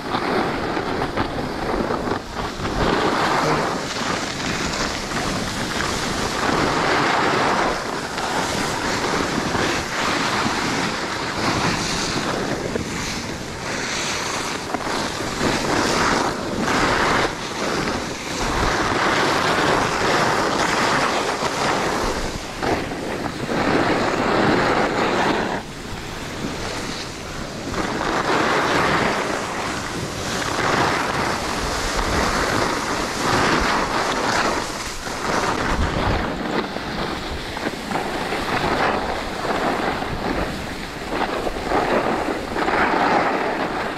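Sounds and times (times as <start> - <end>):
skis scraping on icy snow: 0.0 - 43.9
wind buffeting microphone: 0.0 - 43.9.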